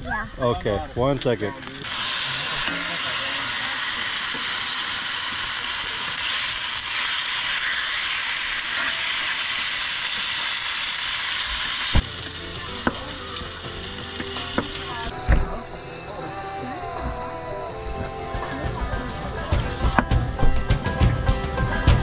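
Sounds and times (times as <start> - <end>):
food sizzling in a pan: 0.1 - 22.0.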